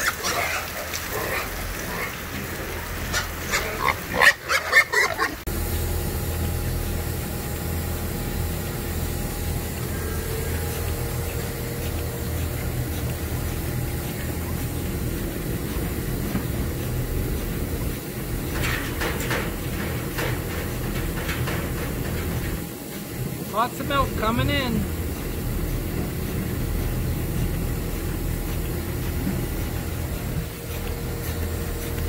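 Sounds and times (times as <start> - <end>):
vacuum pump humming and hissing: 0.0 - 32.0.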